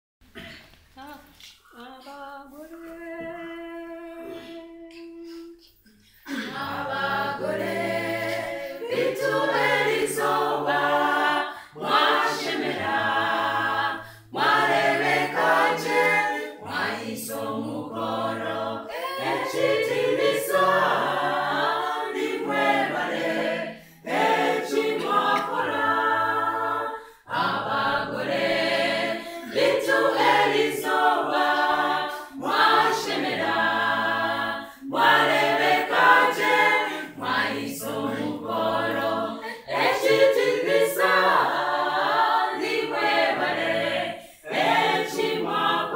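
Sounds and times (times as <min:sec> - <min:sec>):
mixed choir singing a cappella: 0:01.8 - 0:45.9.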